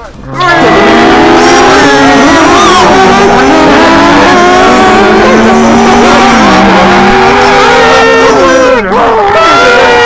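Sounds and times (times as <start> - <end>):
man imitating engine droning: 0.0 - 10.0.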